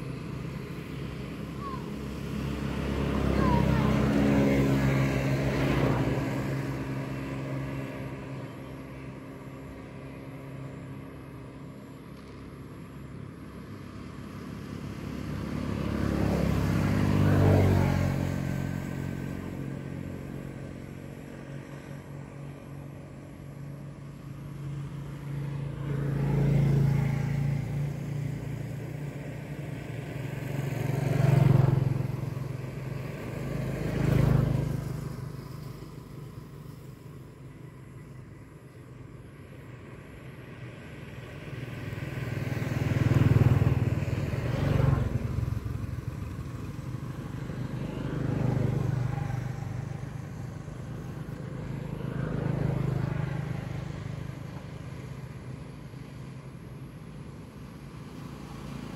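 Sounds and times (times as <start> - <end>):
low engine hum: 0.0 - 58.9
vehicles passing by: 0.0 - 58.9.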